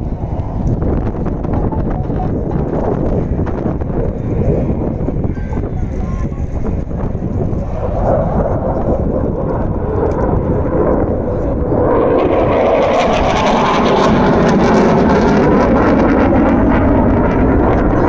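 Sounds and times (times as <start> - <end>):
jet engine roar with crackle: 0.0 - 18.0.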